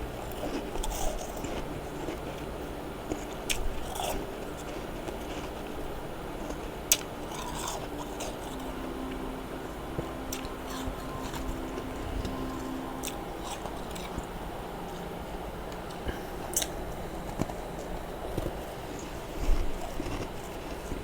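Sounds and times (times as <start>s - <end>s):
frost being chewed: 0.2s - 21.0s.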